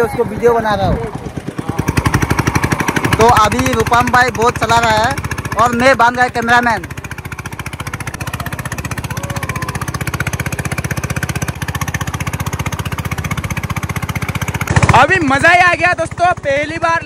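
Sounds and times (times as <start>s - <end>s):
motorboat engine putter: 0.3s - 17.0s.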